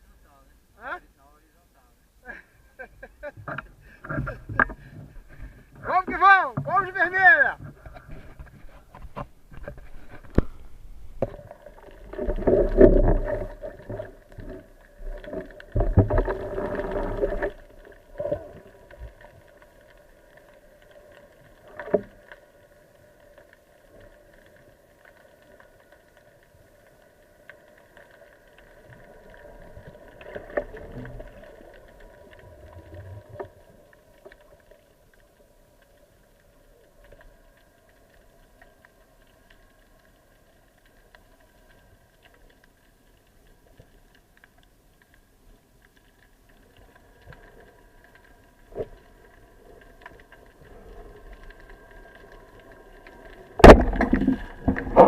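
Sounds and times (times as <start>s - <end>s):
sea water sloshing and bubbling: 2.4s - 6.8s, 7.5s - 55.0s.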